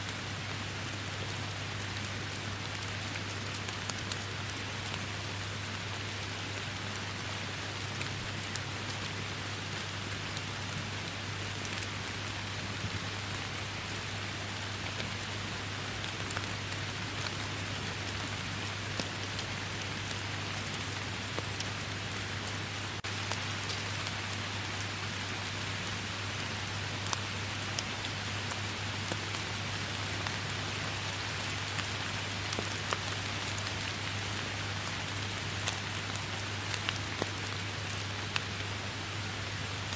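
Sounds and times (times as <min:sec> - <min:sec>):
steady rain hiss: 0:00.0 - 0:39.9
raindrops ticking close by: 0:00.1 - 0:39.9.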